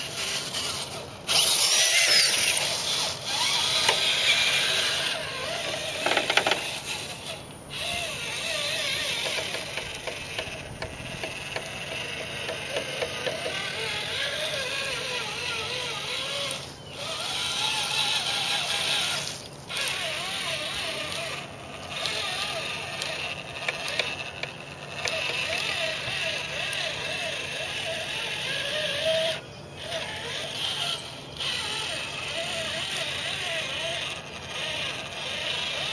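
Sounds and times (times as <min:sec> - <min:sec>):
electric motor and gears whining: 0:00.0 - 0:35.9.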